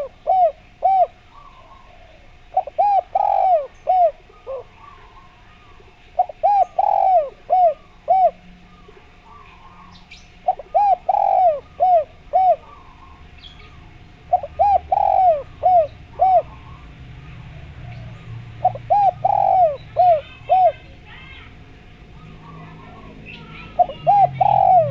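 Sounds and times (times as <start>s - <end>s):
dove cooing: 0.0s - 24.9s.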